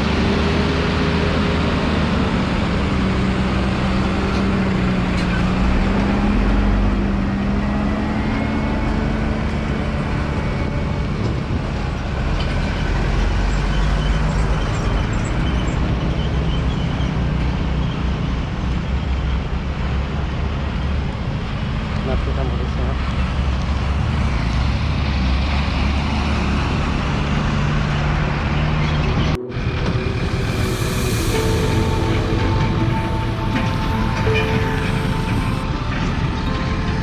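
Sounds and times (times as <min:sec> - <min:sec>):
road noise: 0:00.0 - 0:37.0.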